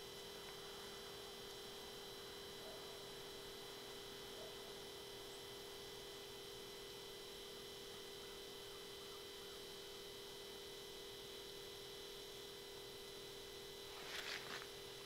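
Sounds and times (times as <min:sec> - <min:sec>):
faint electronic hum: 0:00.0 - 0:15.0.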